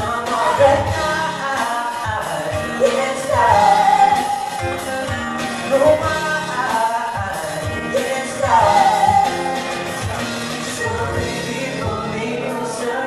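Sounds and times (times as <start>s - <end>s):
drum kit steady beat: 0.0s - 12.9s
amplified acoustic guitar: 0.0s - 13.0s
woman singing lead: 0.0s - 13.0s.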